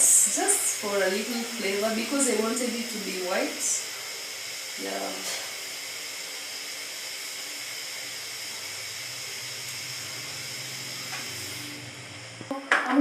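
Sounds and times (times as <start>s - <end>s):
stove hissing: 0.0s - 13.0s.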